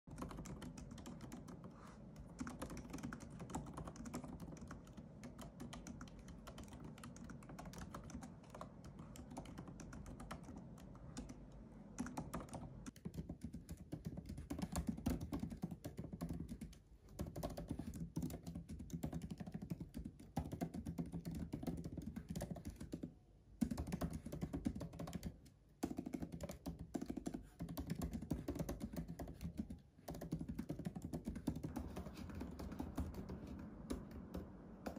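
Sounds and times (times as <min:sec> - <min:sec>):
fast typing on laptop keyboard: 0:00.1 - 0:34.9.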